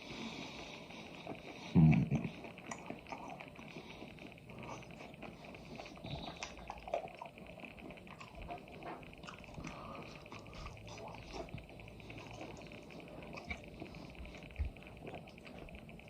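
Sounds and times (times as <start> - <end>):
steady light hiss: 0.0 - 16.0
chewing and biting food: 0.5 - 16.0.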